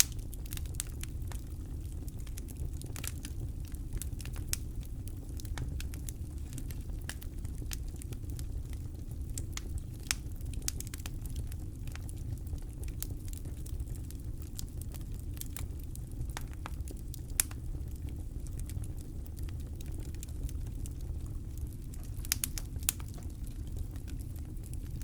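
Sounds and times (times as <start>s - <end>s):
campfire wood crackling: 0.0s - 25.0s.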